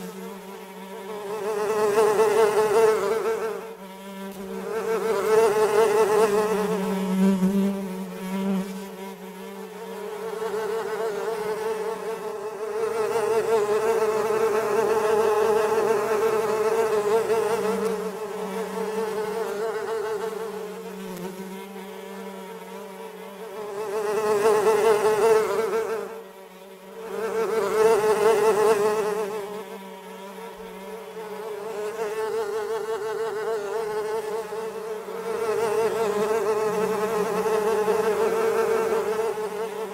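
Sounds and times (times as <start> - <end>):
houseflies buzzing: 0.0 - 39.9.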